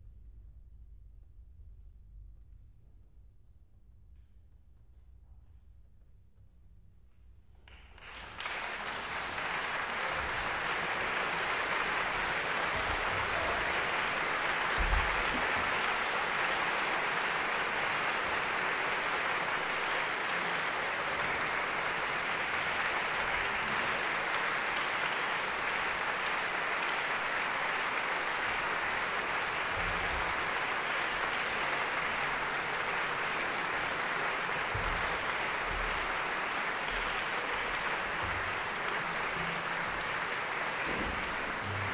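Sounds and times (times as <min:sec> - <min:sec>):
audience applauding: 0:07.7 - 0:41.9.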